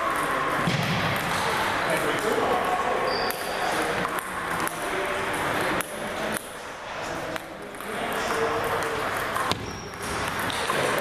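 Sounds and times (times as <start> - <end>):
background chatter: 0.0 - 11.0.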